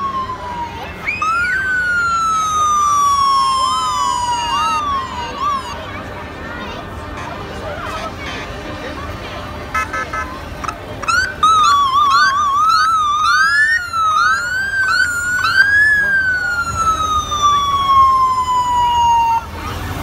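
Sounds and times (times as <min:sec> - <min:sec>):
motorcycle sirens wailing: 0:00.0 - 0:06.7, 0:09.7 - 0:20.0.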